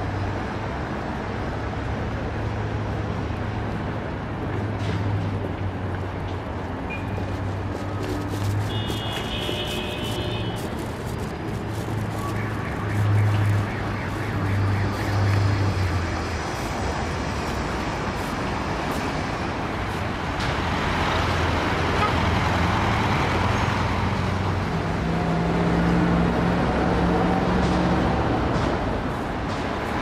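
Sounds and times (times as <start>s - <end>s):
engine hum of passing vehicles: 0.0s - 30.0s
road traffic noise: 0.0s - 30.0s.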